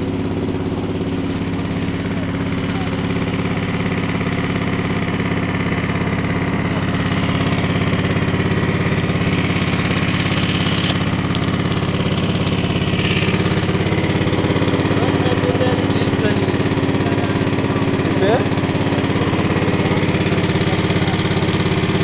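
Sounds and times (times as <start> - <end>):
small boat engine running: 0.0 - 22.0.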